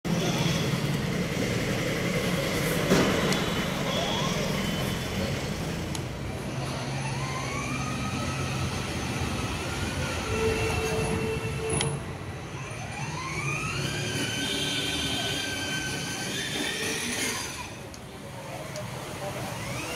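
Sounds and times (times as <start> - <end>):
toy car electric motor whining: 0.1 - 5.9, 6.5 - 11.9, 12.5 - 19.9.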